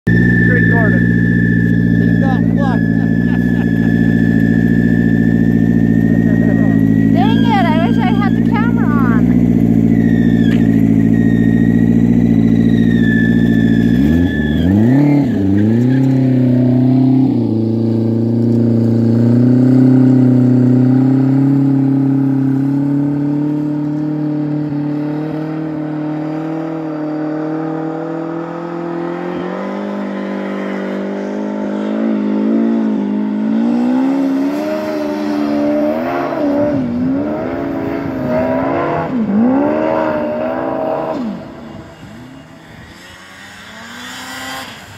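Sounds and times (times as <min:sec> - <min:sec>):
snowmobile engine revving: 0:00.0 - 0:44.9.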